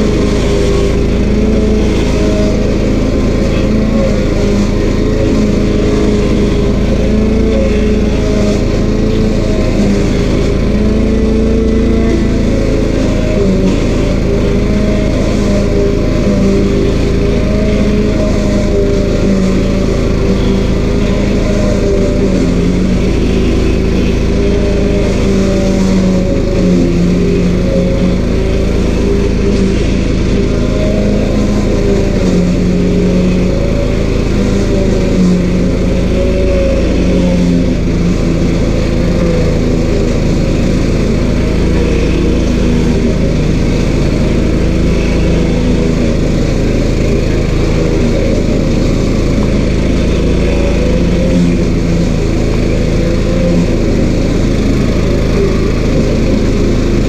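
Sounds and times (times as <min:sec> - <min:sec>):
stump grinder engine running: 0:00.0 - 0:57.0.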